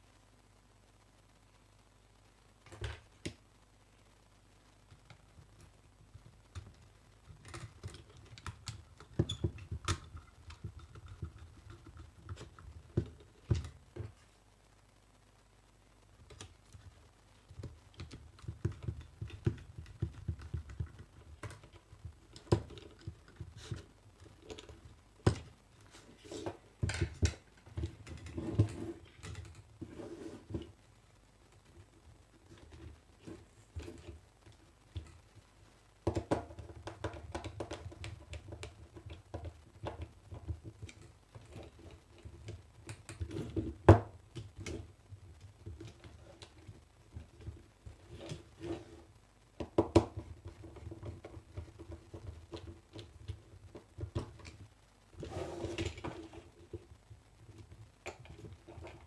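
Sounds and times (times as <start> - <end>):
wires clicking and rustling: 4.7 - 15.1, 15.7 - 59.0.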